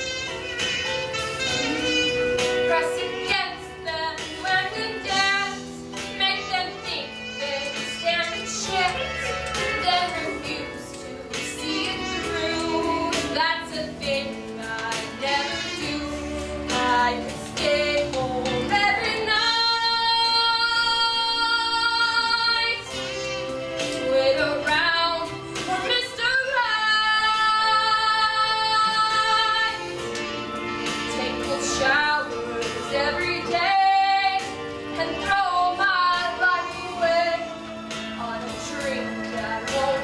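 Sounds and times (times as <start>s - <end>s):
musical accompaniment: 0.0s - 40.0s
woman singing a slow ballad: 1.6s - 40.0s.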